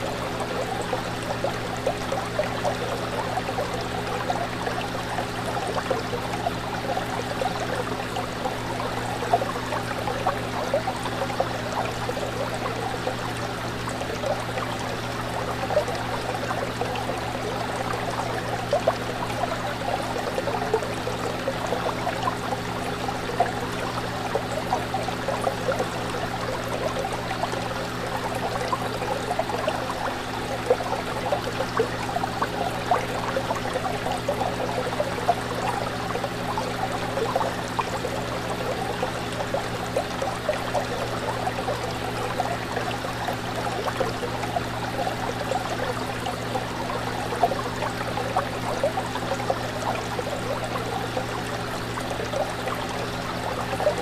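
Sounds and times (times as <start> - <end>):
aquarium water bubbling: 0.0 - 54.0
small water splashes: 0.0 - 54.0.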